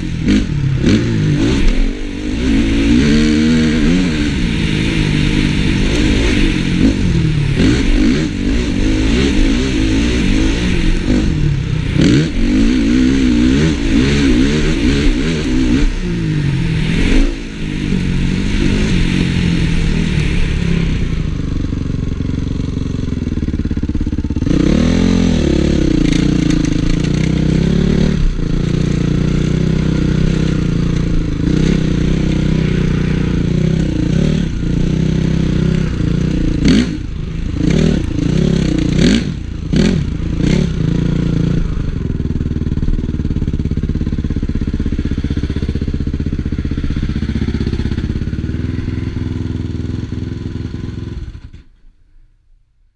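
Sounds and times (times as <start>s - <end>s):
motocross bike engine revving: 0.0s - 51.7s.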